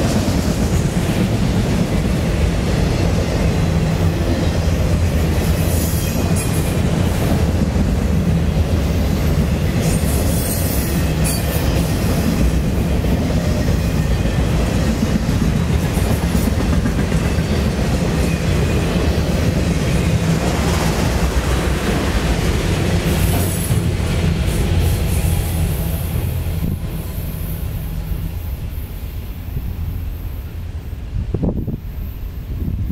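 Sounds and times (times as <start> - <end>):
freight train wheels on rails: 0.0 - 32.9.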